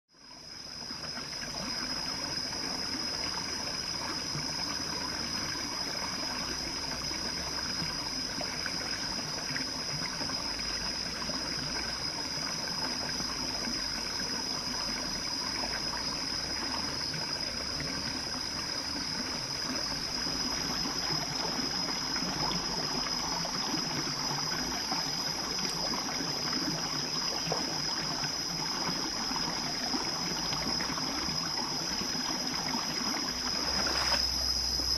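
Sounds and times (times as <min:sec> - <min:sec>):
steady high-pitched whine: 0:00.2 - 0:34.9
stream trickling over rocks: 0:00.2 - 0:34.9.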